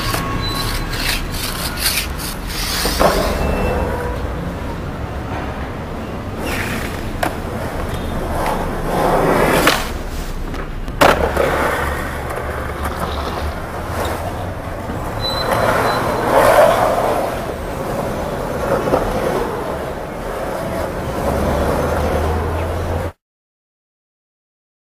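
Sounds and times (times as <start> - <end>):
skateboard clack: 0.0 - 4.2, 5.3 - 23.1
skateboard wheels rolling on concrete: 0.0 - 23.2.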